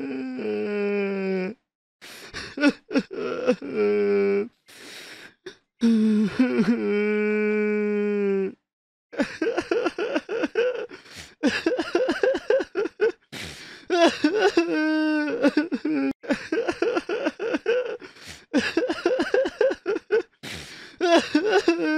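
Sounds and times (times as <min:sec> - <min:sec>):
person sobbing and wailing: 0:02.3 - 0:04.5, 0:05.8 - 0:08.5, 0:09.2 - 0:21.9.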